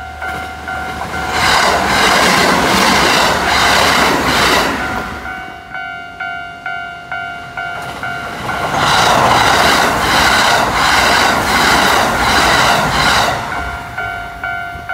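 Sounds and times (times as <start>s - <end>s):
wheels clacking over rail joints: 0.0s - 5.5s, 7.8s - 14.5s
level-crossing bell clanging: 0.0s - 14.9s
train passing at speed: 0.0s - 14.9s.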